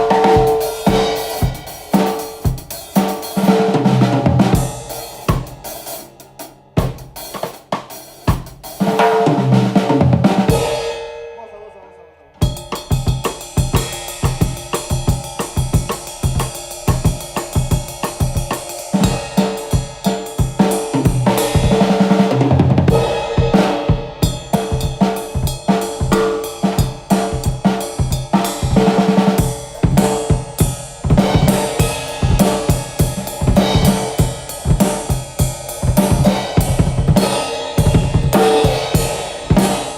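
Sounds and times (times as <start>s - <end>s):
drum kit playing: 0.0s - 11.2s, 12.4s - 39.9s.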